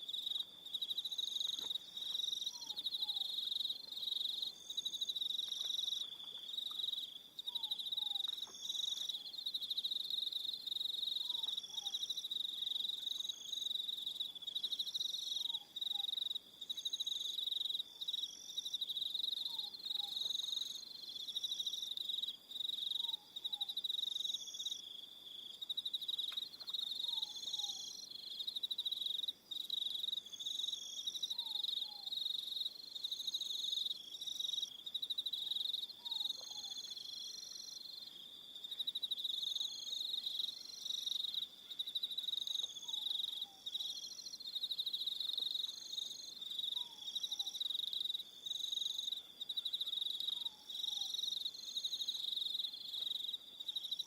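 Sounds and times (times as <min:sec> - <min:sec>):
crickets trilling: 0:00.1 - 0:54.0.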